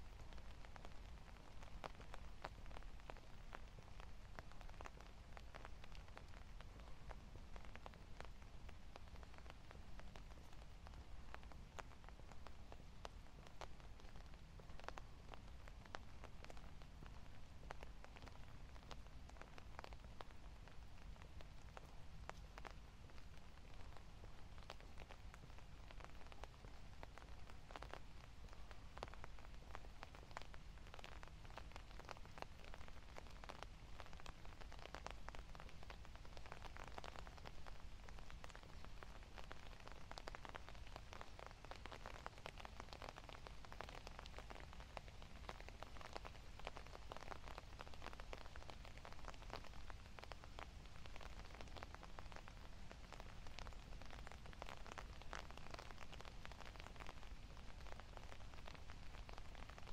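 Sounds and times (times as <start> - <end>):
light rain pattering: 0.0 - 59.9.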